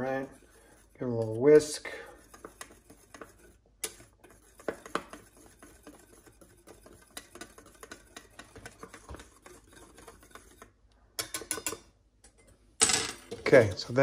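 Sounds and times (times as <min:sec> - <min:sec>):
whisk ticking and scraping bowl: 0:00.0 - 0:11.9, 0:13.3 - 0:14.0.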